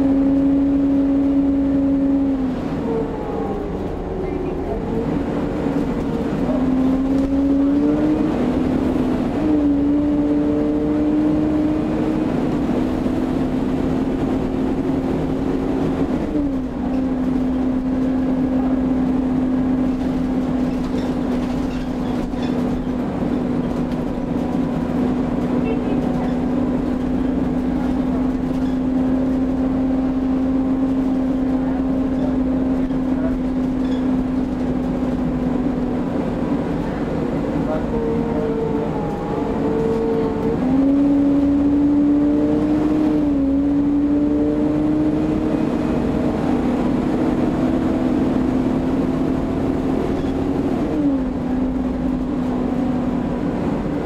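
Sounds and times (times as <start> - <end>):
bus drivetrain whine: 0.0 - 54.0
low engine rumble: 0.0 - 54.0.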